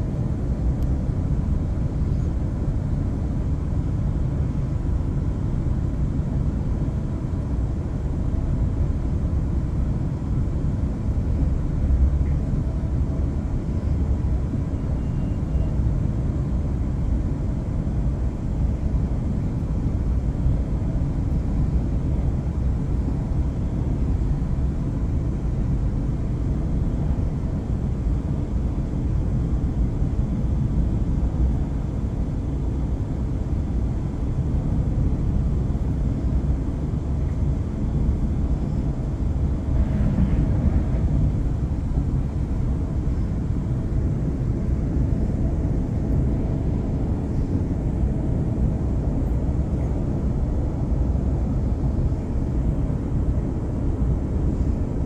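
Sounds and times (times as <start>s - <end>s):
train rumbling from inside carriage: 0.0s - 55.0s.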